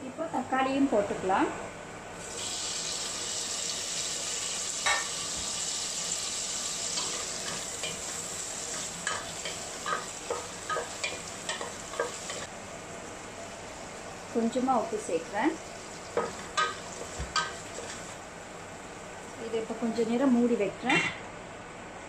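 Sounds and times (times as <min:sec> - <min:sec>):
tomatoes sizzling in oil: 0:02.2 - 0:20.0.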